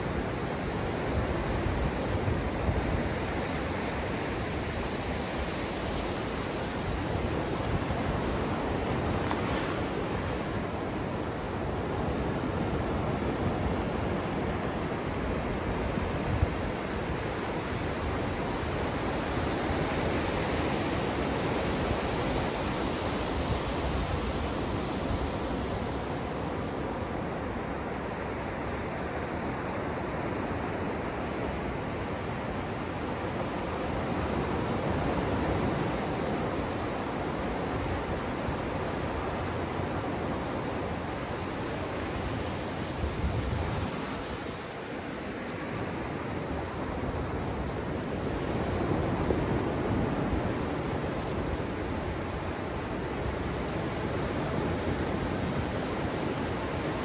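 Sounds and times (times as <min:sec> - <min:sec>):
ocean surf washing on sand: 0:00.0 - 0:57.0.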